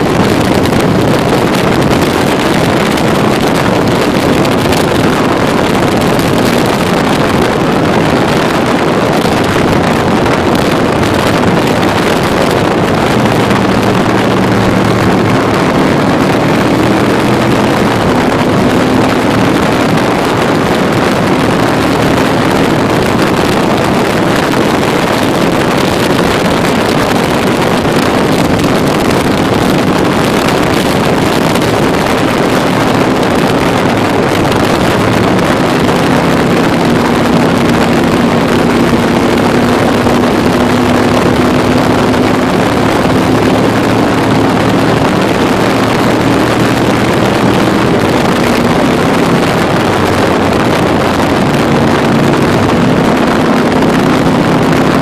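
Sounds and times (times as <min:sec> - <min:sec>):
motorcycle engine hum: 0:00.0 - 0:55.0
wind noise on microphone: 0:00.0 - 0:55.0.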